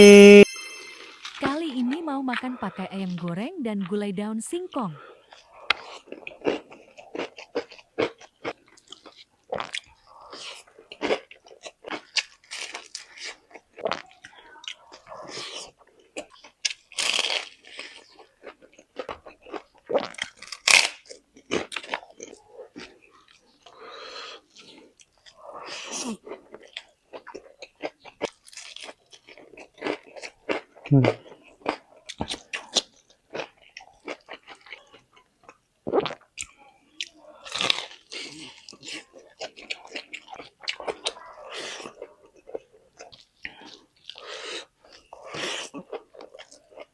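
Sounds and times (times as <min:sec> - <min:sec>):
chewing: 0:05.0 - 0:46.9
fried chicken crunching: 0:05.2 - 0:46.9.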